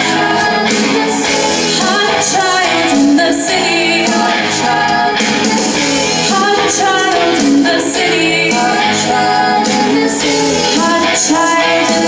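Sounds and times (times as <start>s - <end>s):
live pop-rock band: 0.0s - 12.0s
woman singing lead vocal: 0.0s - 12.0s.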